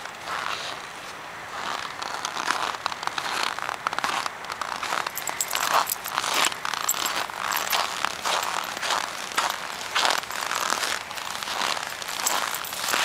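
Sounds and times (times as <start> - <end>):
footsteps crunching in snow: 1.5 - 13.0.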